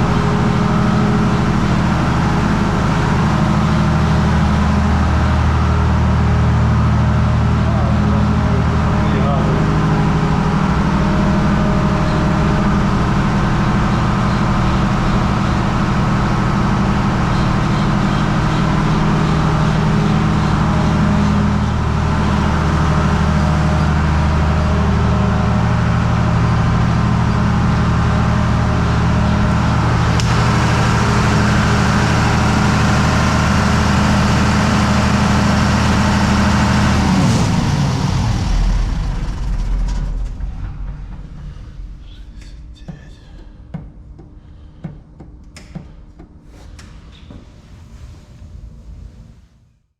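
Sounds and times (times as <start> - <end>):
diesel generator running: 0.0 - 49.7.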